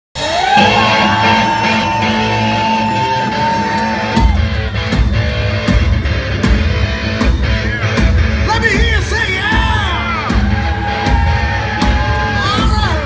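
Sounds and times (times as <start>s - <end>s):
rock band playing: 0.2s - 13.0s.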